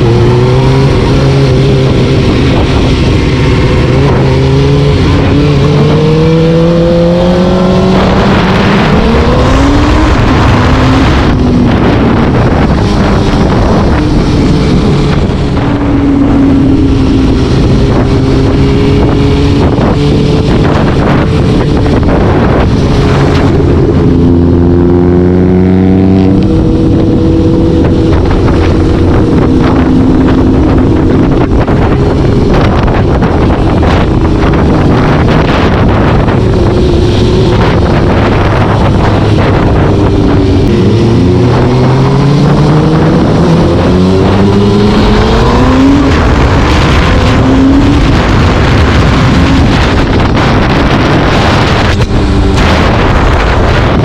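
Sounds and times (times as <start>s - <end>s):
vehicle engine accelerating: 0.0s - 54.0s
wind buffeting microphone: 0.0s - 54.0s.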